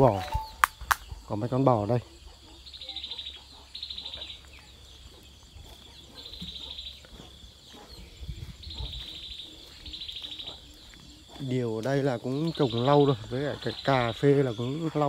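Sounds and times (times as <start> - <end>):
insect trills: 0.0 - 15.0.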